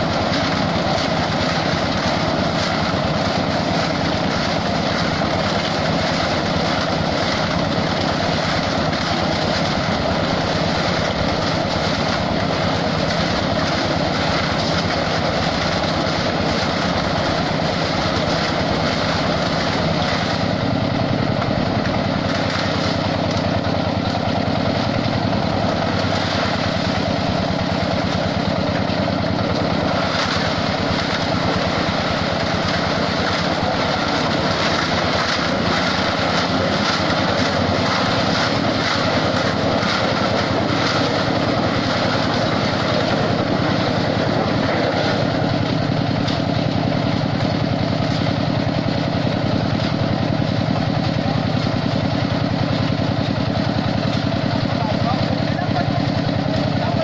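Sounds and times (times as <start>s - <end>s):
concrete mixer churning: 0.0s - 57.0s.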